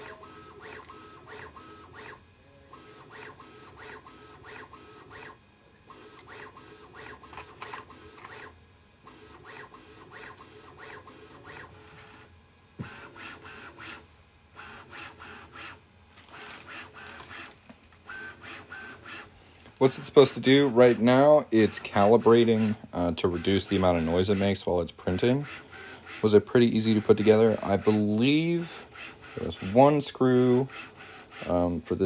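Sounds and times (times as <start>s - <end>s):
printer motors pulsing tones: 0.0s - 32.0s.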